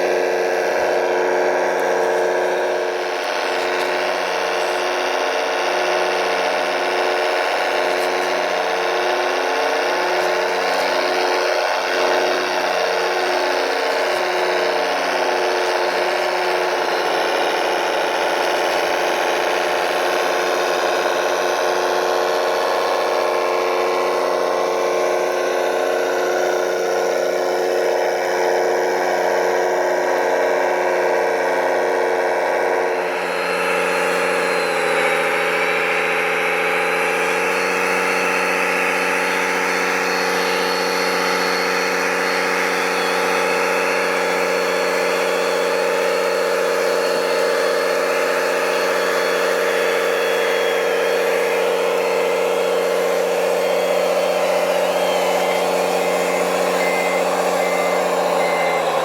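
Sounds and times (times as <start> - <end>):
rc truck engine running: 0.0 - 59.0.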